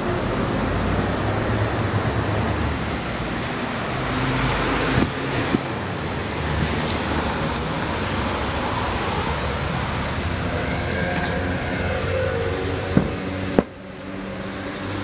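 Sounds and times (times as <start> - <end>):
rain on wet pavement: 0.0 - 15.0
traffic hum: 0.0 - 15.0.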